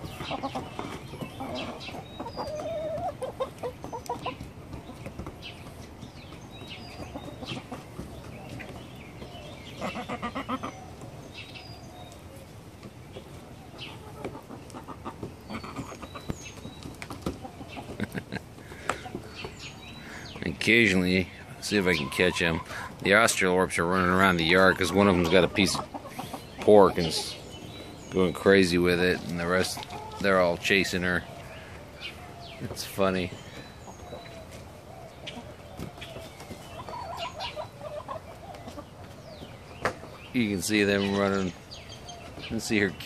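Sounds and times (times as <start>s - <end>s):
hens clucking: 0.0s - 43.0s.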